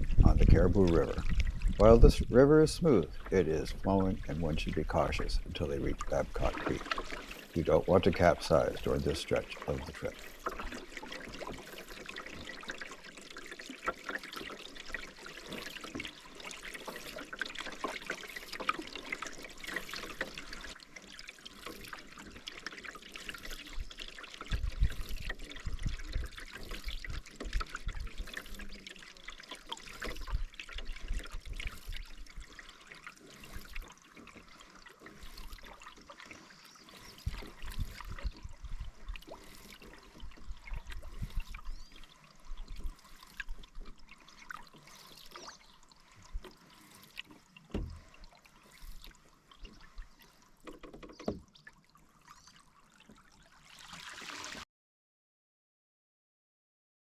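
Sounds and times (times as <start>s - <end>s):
water splashing around paddles: 0.0s - 54.6s.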